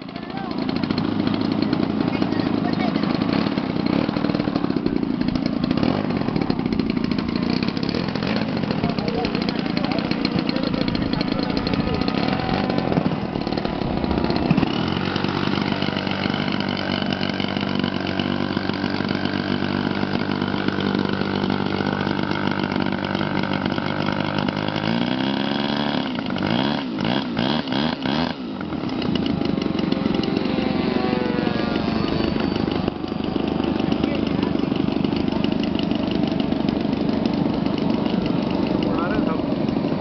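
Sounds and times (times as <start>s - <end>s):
toy aeroplane motor whining: 0.0s - 40.0s.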